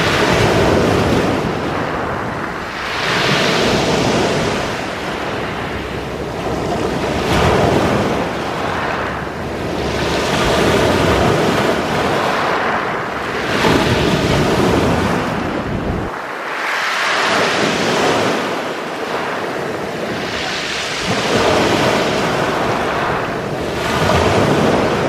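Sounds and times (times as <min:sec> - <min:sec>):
waves breaking on pebble beach: 0:00.0 - 0:25.0.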